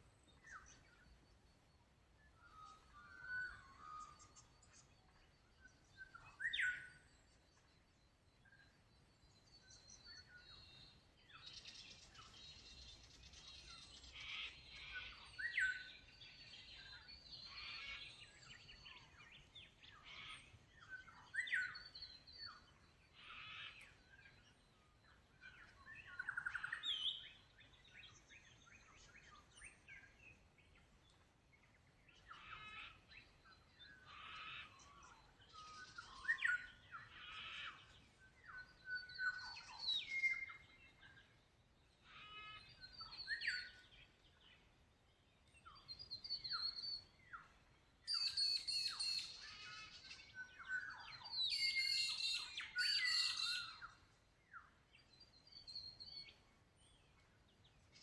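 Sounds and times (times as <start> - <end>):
birds chirping and whistling: 2.2 - 30.4, 32.1 - 41.2, 42.1 - 44.6, 45.5 - 58.0.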